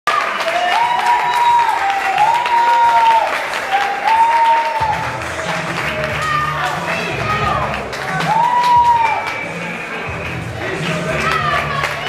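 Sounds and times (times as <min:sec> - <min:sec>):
crowd clapping and cheering: 0:00.0 - 0:12.0.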